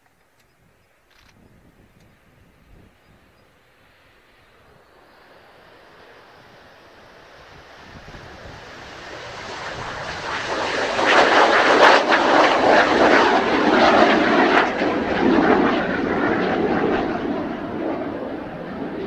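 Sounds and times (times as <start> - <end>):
jet engines at takeoff: 0.4 - 19.0.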